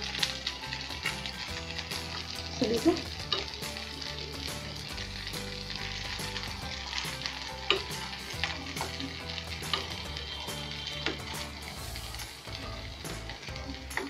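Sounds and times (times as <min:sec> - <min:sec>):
patties sizzling in oil: 0:00.0 - 0:14.0.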